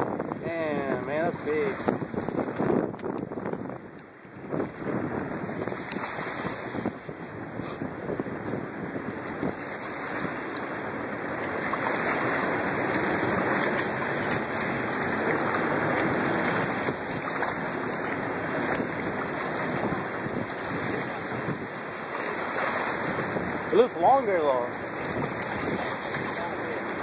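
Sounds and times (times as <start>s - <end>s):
wind: 0.0s - 27.0s
river water rushing: 0.1s - 2.8s, 4.0s - 27.0s.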